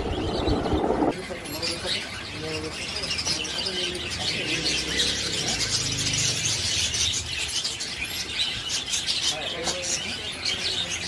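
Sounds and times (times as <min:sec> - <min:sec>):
parrots chirping: 0:00.0 - 0:11.0.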